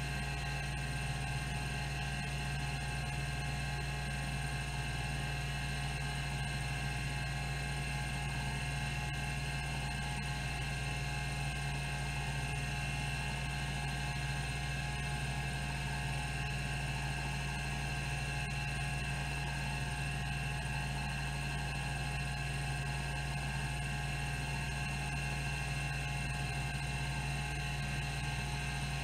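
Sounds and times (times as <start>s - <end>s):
hard disk hum and whine: 0.0s - 29.0s.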